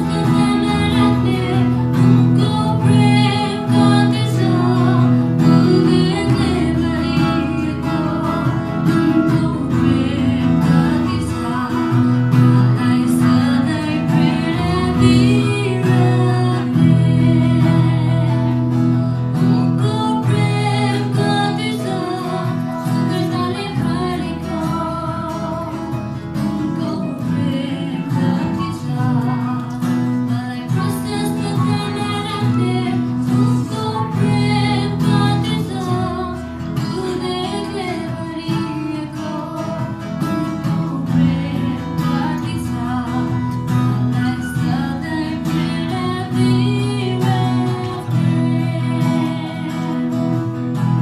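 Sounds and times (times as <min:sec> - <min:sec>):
keyboard: 0:00.0 - 0:51.0
strummed acoustic guitar: 0:00.0 - 0:51.0
woman singing: 0:00.0 - 0:51.0.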